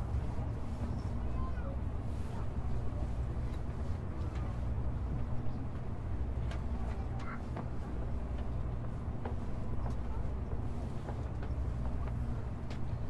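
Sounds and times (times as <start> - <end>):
train cabin rumble and hum: 0.0 - 13.0.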